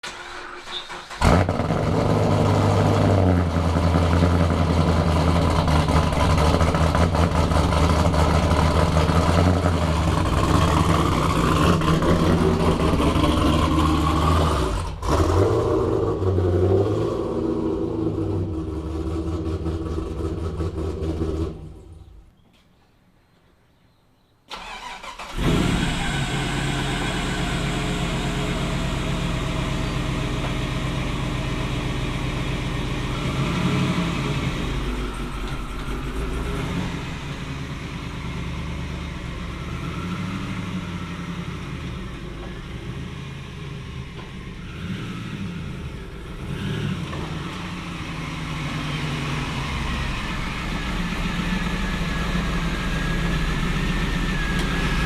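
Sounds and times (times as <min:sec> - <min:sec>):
engine revving: 0:00.0 - 0:22.0, 0:24.5 - 0:55.0
pickup truck engine starting: 0:00.0 - 0:22.2, 0:24.5 - 0:55.0.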